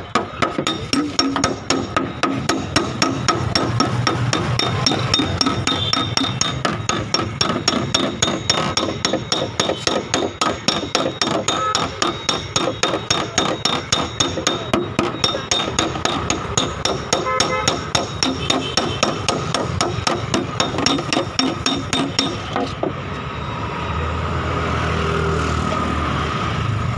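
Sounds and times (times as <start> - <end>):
hammer tapping sheet metal: 0.0 - 23.0.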